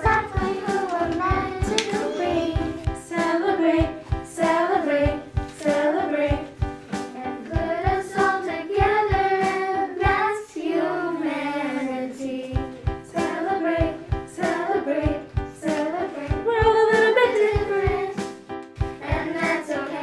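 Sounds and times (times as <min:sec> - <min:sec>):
backing track with steady beat: 0:00.0 - 0:10.6, 0:12.3 - 0:20.0
children's choir singing: 0:00.0 - 0:18.3, 0:18.9 - 0:20.0.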